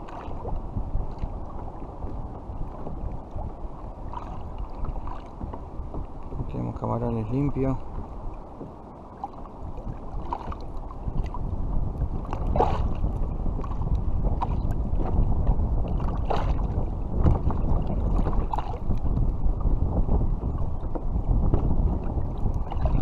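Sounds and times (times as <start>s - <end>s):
water lapping against hull: 0.0s - 23.0s
water splashes: 0.0s - 23.0s
wind noise on microphone: 0.0s - 23.0s.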